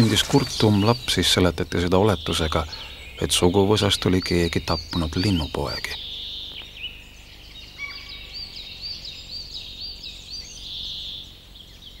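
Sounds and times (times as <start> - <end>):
bird trill: 0.0 - 12.0
songbirds singing high notes: 0.0 - 12.0.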